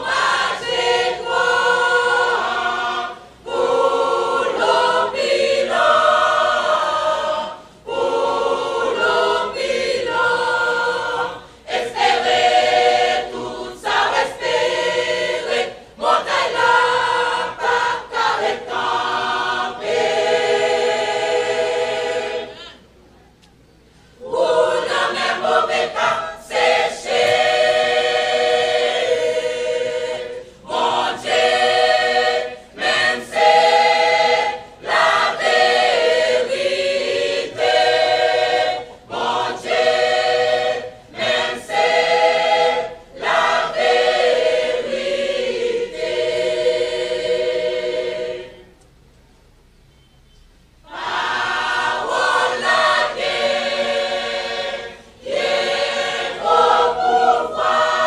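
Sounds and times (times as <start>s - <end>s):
church choir singing: 0.0s - 22.8s, 24.2s - 48.8s, 50.8s - 58.0s.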